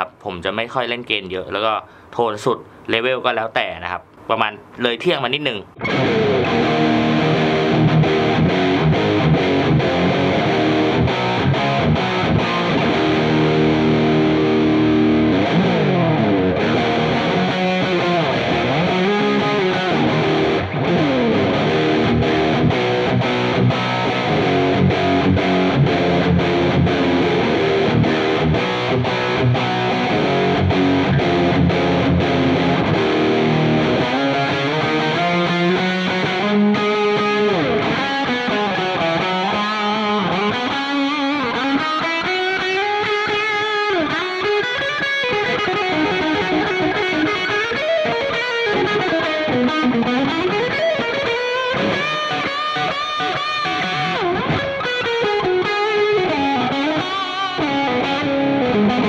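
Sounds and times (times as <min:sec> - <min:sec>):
distorted electric guitar: 0:04.1 - 0:59.0.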